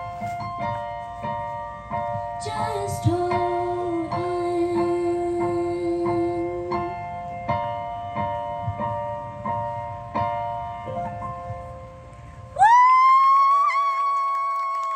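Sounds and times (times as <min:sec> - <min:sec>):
piano chords: 0:00.0 - 0:14.9.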